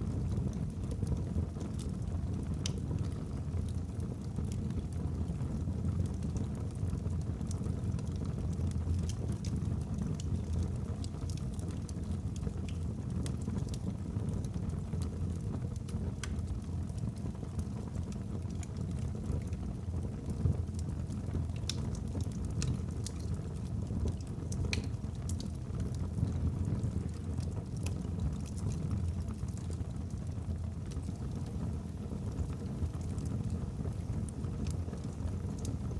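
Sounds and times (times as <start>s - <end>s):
low rumble of flames: 0.0s - 35.9s
logs crackling and popping: 0.2s - 5.2s, 6.0s - 35.9s.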